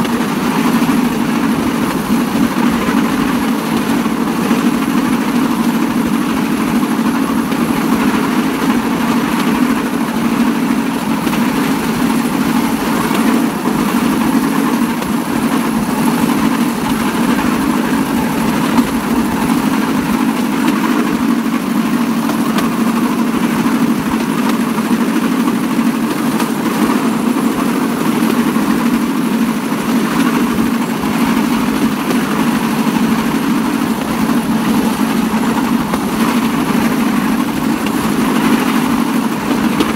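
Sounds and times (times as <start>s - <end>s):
rail cart rolling on rails: 0.0s - 39.9s
small engine droning: 0.0s - 39.9s.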